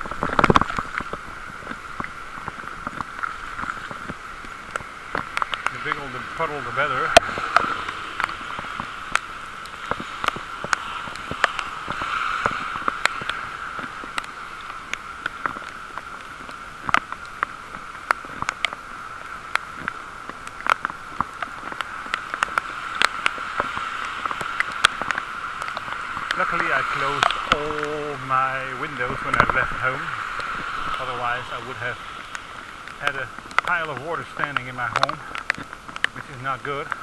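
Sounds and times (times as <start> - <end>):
bicycle tyres hissing on wet road: 0.0 - 37.0
raindrops ticking on camera: 0.0 - 37.0.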